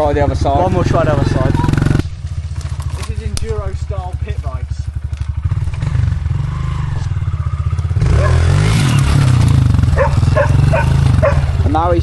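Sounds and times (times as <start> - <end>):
small motorbike engine revving: 0.2 - 12.0.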